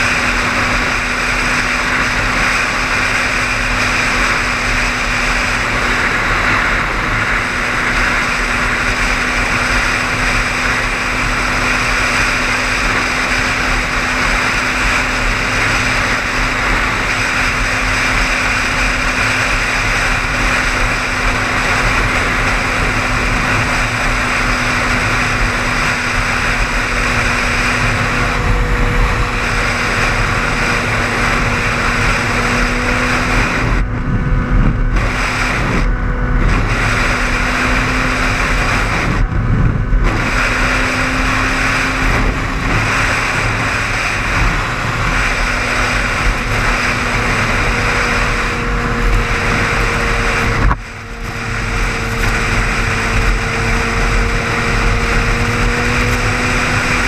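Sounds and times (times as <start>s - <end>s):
car road and engine noise: 0.0s - 57.0s
steady hum: 0.0s - 57.0s.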